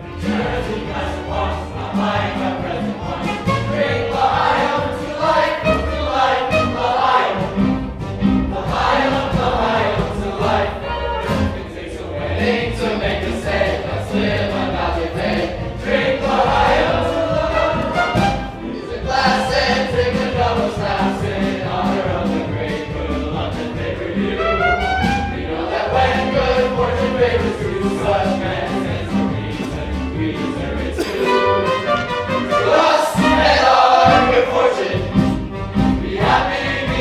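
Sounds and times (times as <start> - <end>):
chorus singing over dance music: 0.0 - 37.0.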